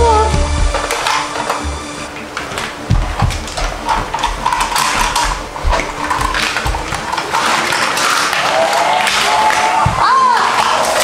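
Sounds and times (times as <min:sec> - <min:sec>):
toys clicking and knocking: 0:00.6 - 0:11.0.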